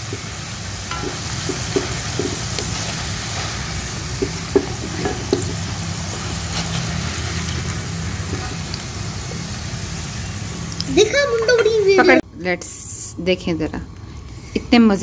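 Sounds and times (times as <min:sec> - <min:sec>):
fries sizzling in hot oil: 0:00.0 - 0:12.2
low steady hum: 0:00.0 - 0:15.0.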